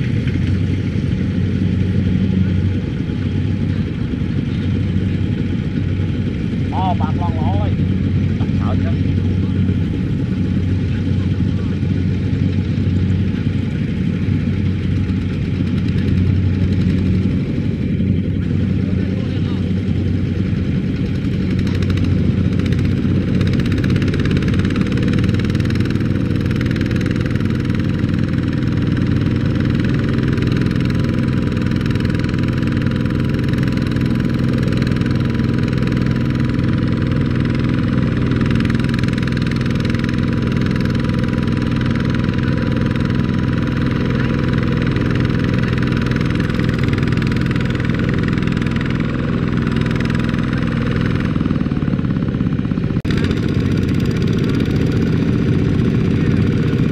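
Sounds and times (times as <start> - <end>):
diesel tractor engine running: 0.0 - 56.9.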